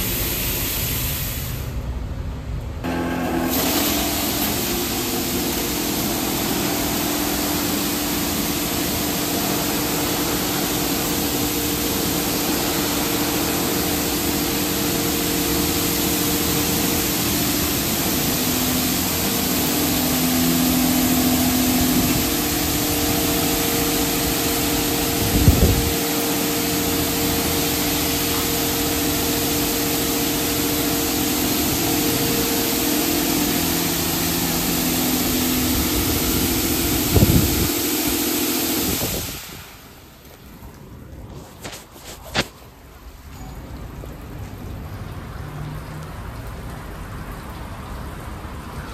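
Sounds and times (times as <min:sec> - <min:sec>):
high-pressure water spray: 0:00.0 - 0:01.8, 0:02.8 - 0:40.4, 0:41.3 - 0:42.6
pump hum: 0:00.0 - 0:48.9.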